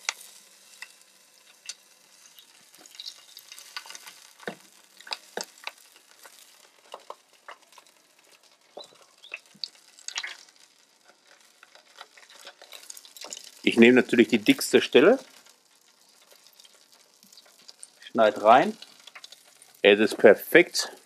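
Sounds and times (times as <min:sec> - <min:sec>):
fat sizzling and popping: 0:00.0 - 0:21.0.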